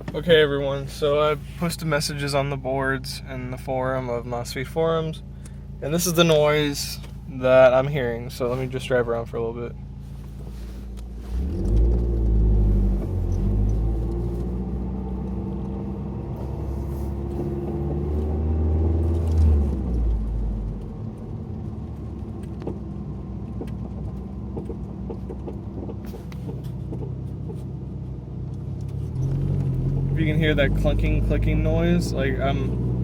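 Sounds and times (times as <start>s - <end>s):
car engine running: 0.0s - 33.0s.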